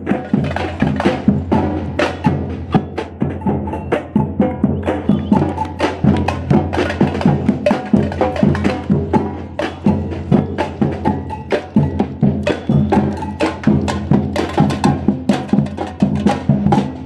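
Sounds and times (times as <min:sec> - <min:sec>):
music with wood-block beat: 0:00.0 - 0:17.0.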